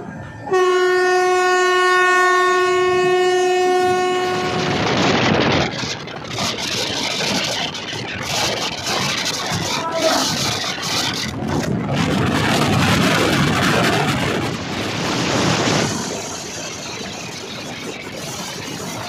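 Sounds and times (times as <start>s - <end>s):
passing train rumble: 0.0s - 19.0s.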